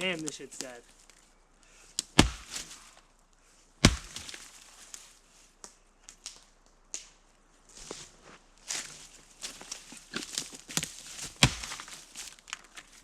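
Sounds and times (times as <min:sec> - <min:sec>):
dry wood cracking: 0:00.0 - 0:08.0, 0:08.7 - 0:13.0.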